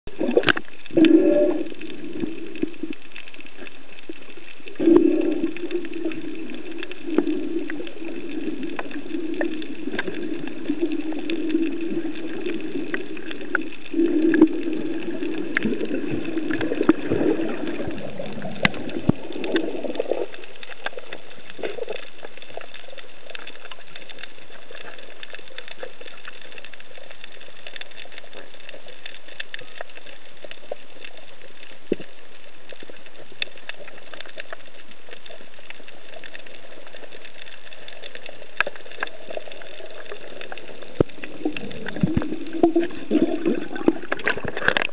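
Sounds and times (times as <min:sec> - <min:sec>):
sharp clicks and crackles: 0:00.1 - 0:44.9.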